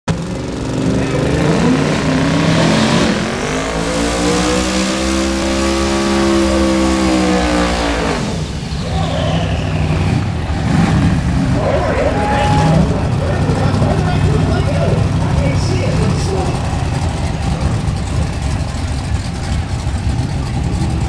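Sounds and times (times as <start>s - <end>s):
car engine revving hard: 0.1s - 21.0s.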